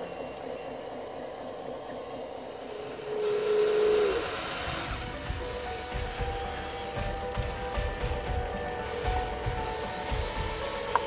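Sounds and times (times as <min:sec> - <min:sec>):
small electric motor whining: 0:00.0 - 0:07.0, 0:08.8 - 0:11.0
steady background hum: 0:00.0 - 0:11.0.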